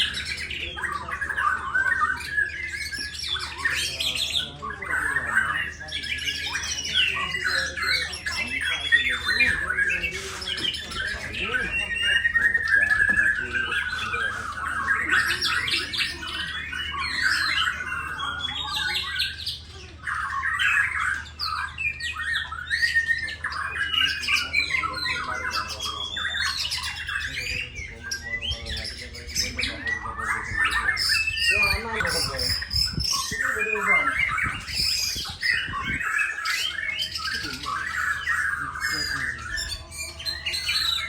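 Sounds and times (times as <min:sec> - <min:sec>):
songbird singing varied whistles and trills: 0:00.0 - 0:41.0.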